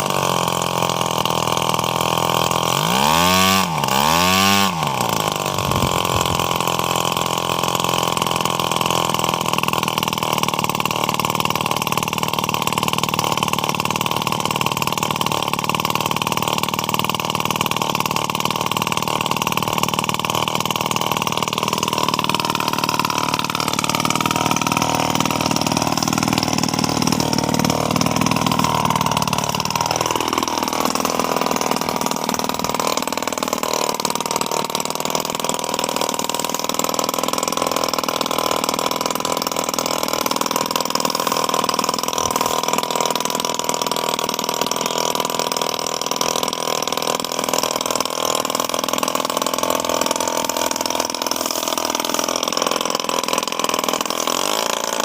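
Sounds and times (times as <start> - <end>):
grass-cutter engine running: 0.0 - 55.0.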